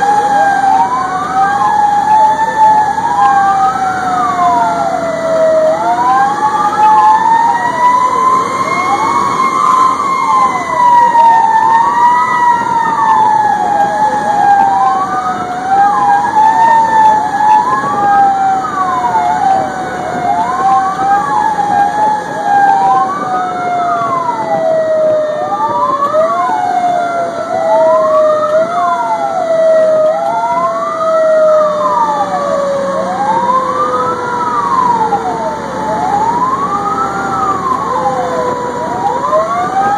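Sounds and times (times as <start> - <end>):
fire engine siren winding: 0.0 - 39.9
siren sweeping up and down: 0.0 - 39.9.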